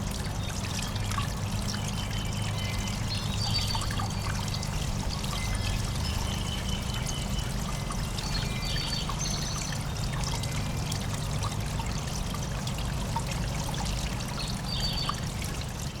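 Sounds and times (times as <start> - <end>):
water trickling and pouring: 0.0 - 16.0.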